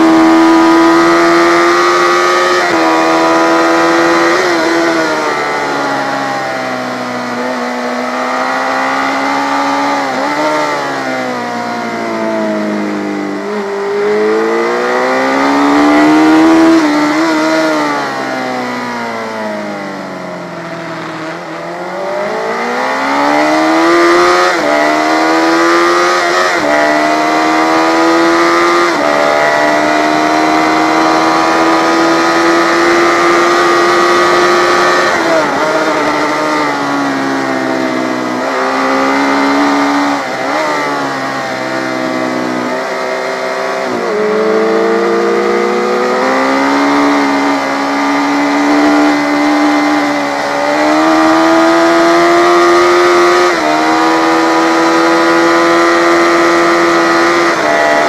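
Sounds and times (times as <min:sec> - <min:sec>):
engine upshifts: 0:00.0 - 0:58.0
motorcycle engine revving: 0:00.0 - 0:58.0.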